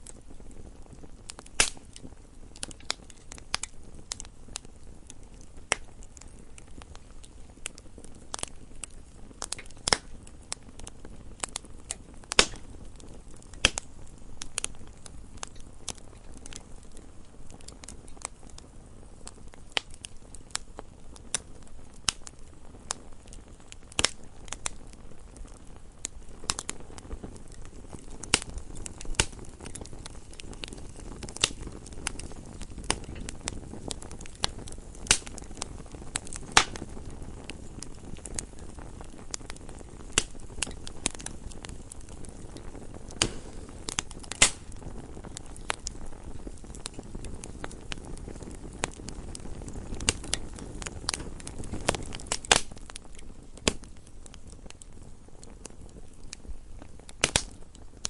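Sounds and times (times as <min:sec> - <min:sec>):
fire crackling and popping: 0:00.0 - 0:58.0
hiss of flames: 0:00.0 - 0:58.0.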